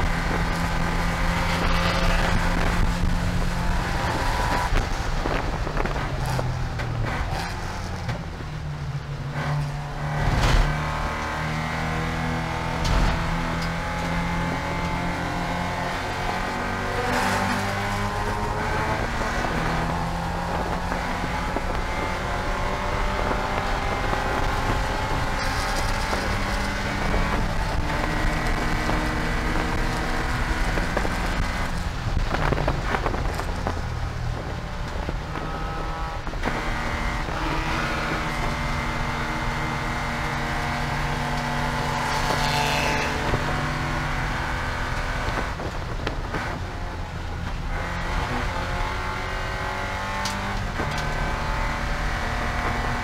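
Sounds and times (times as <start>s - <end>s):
race car engine shifting gears: 9.2s - 53.0s.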